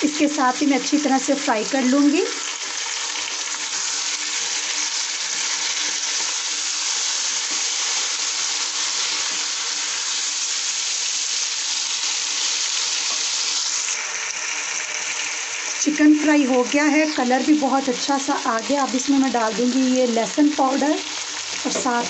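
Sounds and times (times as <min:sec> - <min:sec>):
chicken and onions sizzling in oil: 0:00.0 - 0:22.0.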